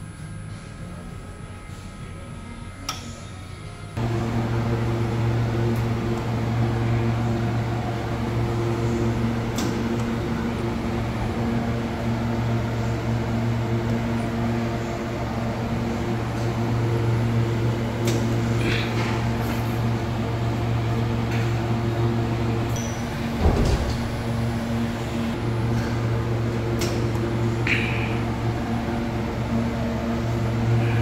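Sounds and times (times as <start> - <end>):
electrical hum: 0.0 - 31.0
fan noise: 0.0 - 31.0.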